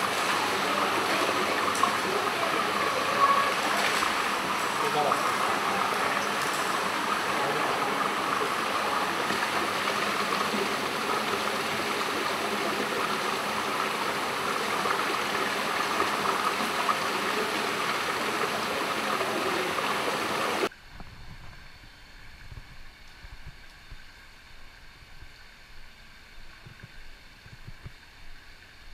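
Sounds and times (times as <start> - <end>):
running water rushing: 0.0 - 28.9.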